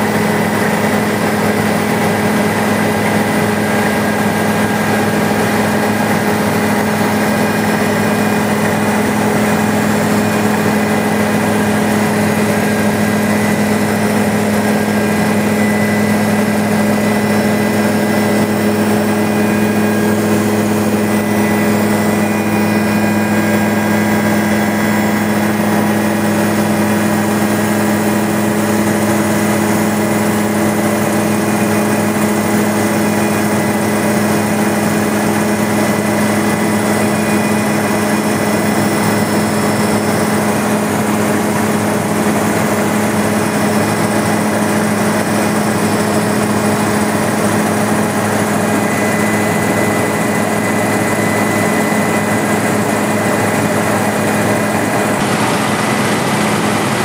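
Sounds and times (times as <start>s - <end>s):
helicopter engine and rotor drone: 0.0s - 57.0s
high whine: 0.0s - 57.0s.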